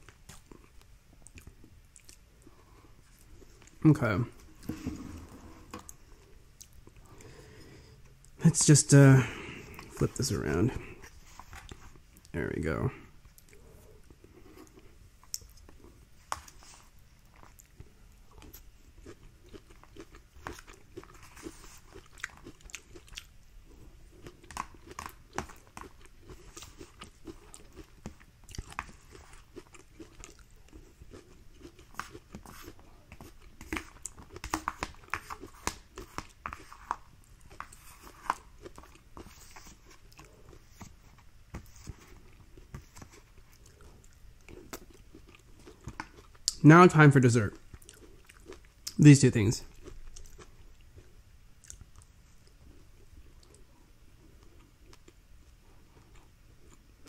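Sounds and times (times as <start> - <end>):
person chewing: 0.0 - 3.8, 4.4 - 8.4, 13.1 - 46.6, 47.5 - 49.0, 49.6 - 55.2, 55.8 - 57.0.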